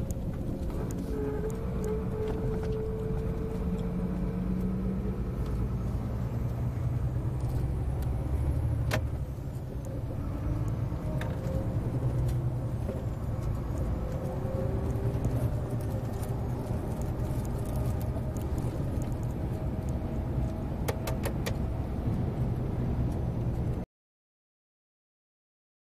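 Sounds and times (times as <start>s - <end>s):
diesel truck engine running: 0.0s - 23.8s.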